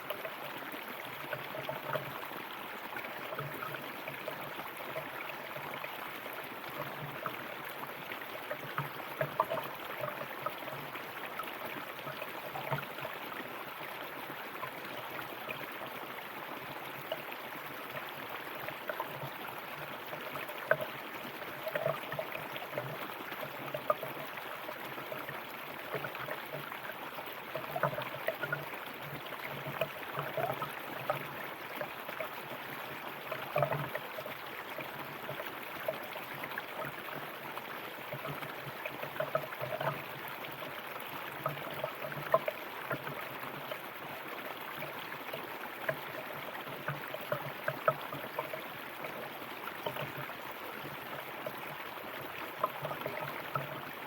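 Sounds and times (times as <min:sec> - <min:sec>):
water gurgles and splashes: 0:00.0 - 0:54.0.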